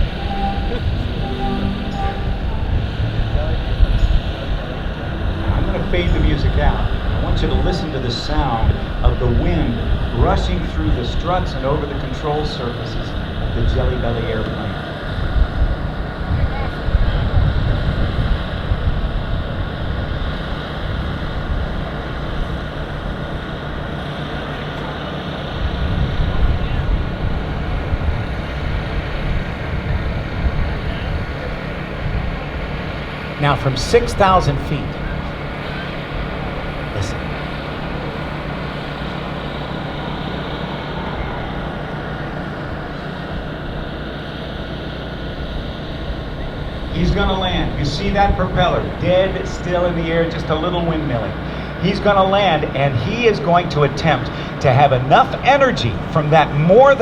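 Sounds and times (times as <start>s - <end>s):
wind on microphone: 0.0s - 22.2s, 25.6s - 49.5s
faint steady tones: 0.0s - 57.0s.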